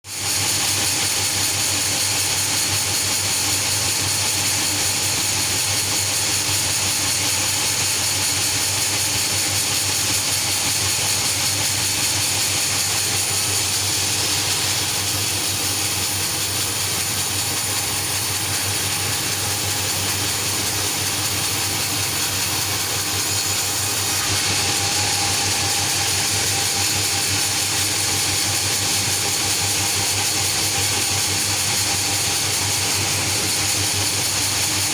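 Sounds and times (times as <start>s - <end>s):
sawmill machinery drone: 0.2s - 34.9s.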